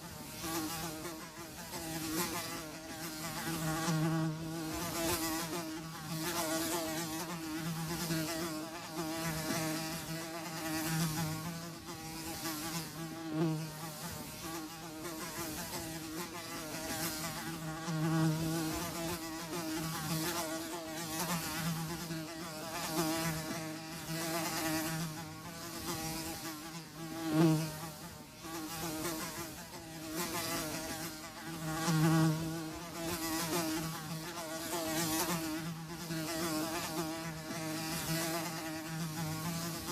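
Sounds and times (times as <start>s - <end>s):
flies buzzing: 0.0s - 39.9s.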